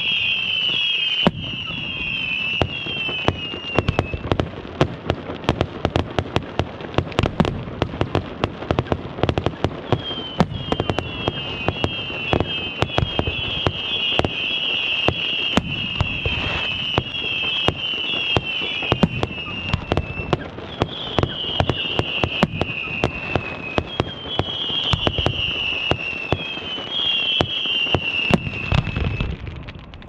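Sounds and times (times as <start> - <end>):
fireworks whistles: 0.0 - 4.5, 8.6 - 30.0
fireworks bangs: 0.0 - 30.0.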